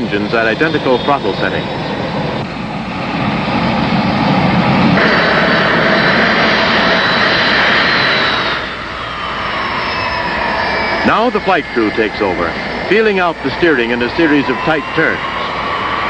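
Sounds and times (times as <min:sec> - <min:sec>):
jet engines rushing and whining: 0:00.0 - 0:16.0.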